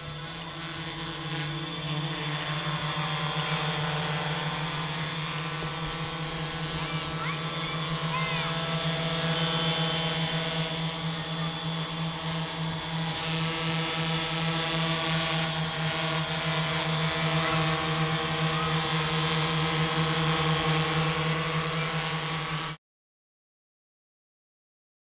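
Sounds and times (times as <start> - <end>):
drone propellers buzzing: 0.0 - 22.8.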